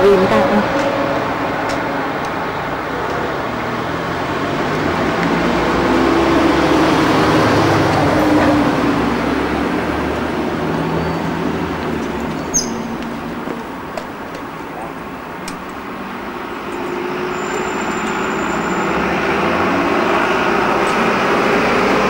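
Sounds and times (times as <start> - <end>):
vehicle engine drone passing: 0.0 - 13.5, 16.2 - 22.0.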